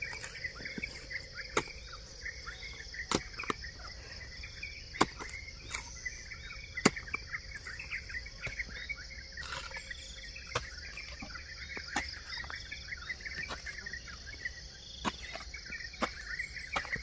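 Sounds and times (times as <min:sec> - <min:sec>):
hoe striking soil: 0:00.0 - 0:04.0, 0:04.8 - 0:08.8, 0:09.4 - 0:12.6, 0:13.2 - 0:13.9, 0:15.0 - 0:17.0
birds chirping: 0:00.0 - 0:17.0
insects droning: 0:00.0 - 0:17.0.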